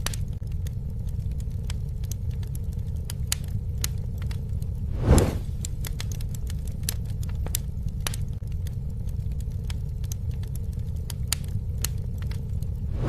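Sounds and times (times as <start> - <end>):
campfire wood crackling: 0.0 - 13.0
low rumble of flames: 0.0 - 13.0.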